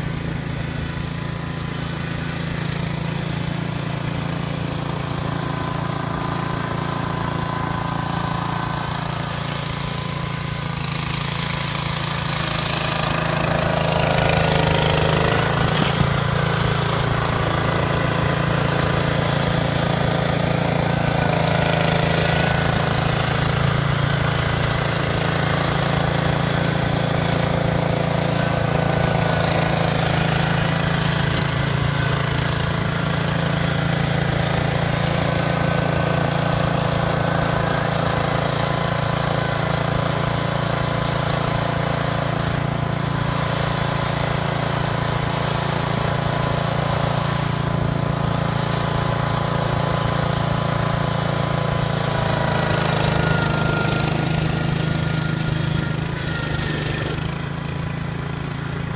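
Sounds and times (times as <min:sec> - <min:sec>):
small tractor engine running: 0:00.0 - 0:58.9.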